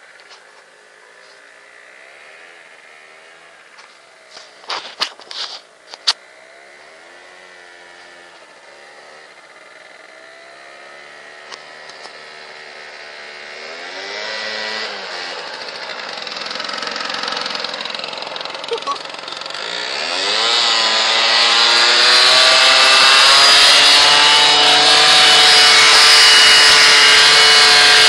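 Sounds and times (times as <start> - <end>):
scooter engine revving: 0.0 - 28.0.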